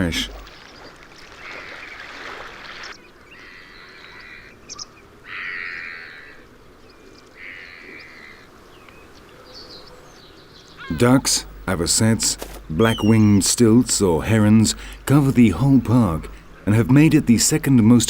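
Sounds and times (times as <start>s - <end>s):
waterbirds calling harshly: 0.0s - 18.0s.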